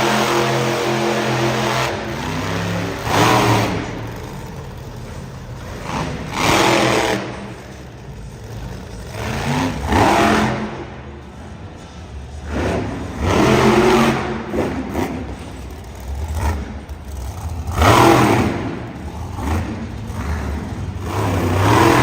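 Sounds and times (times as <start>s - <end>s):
truck engine revving hard: 0.0s - 11.0s, 12.3s - 22.0s.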